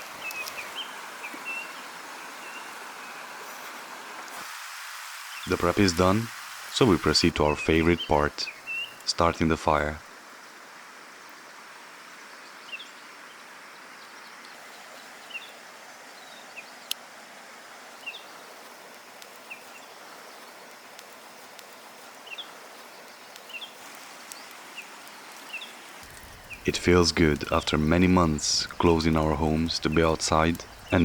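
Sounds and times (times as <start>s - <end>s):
steady outdoor hiss: 0.0s - 31.0s.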